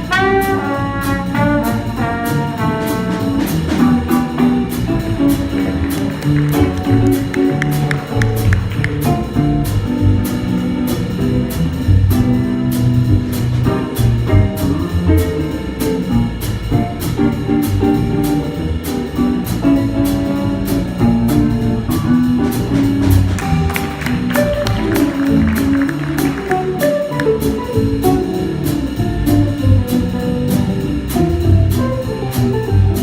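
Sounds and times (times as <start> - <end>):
bass: 0.0 - 33.0
drums: 0.0 - 33.0
guitar: 0.0 - 33.0.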